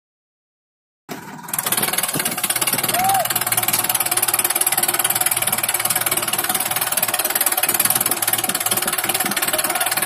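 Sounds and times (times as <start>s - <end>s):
tractor diesel engines clattering: 1.1s - 10.0s.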